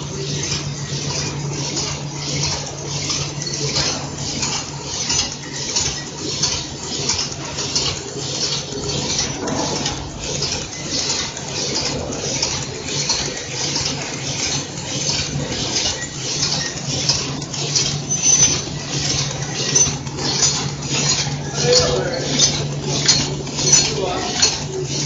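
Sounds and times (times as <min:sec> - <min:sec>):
rhythmic high-pitched machine clatter: 0:00.0 - 0:25.0
steady low machine hum: 0:00.0 - 0:25.0.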